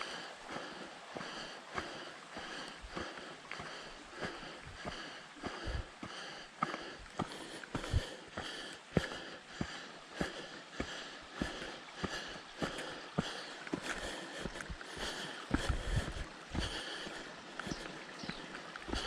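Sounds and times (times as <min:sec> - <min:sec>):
footsteps on a trail: 0:00.0 - 0:19.0
person breathing: 0:00.0 - 0:19.0.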